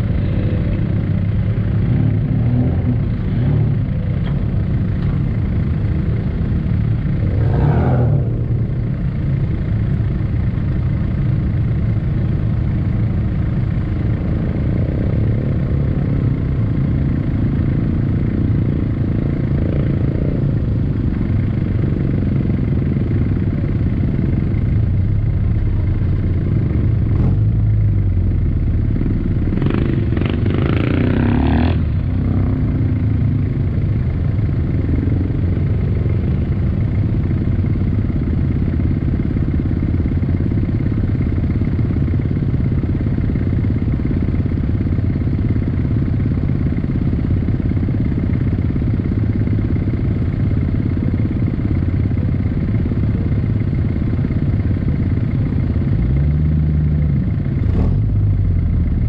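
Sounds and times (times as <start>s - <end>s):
car engine idling: 0.0s - 30.6s, 31.8s - 59.0s.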